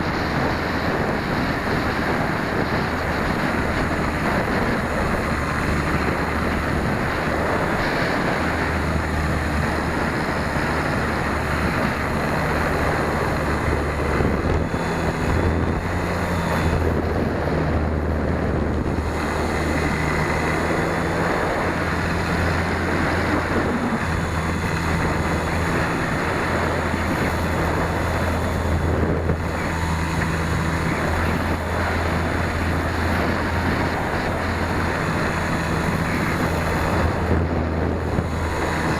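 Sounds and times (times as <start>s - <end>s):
electric motor and propeller hum: 0.0s - 38.9s
wind rushing over microphone: 0.0s - 38.9s.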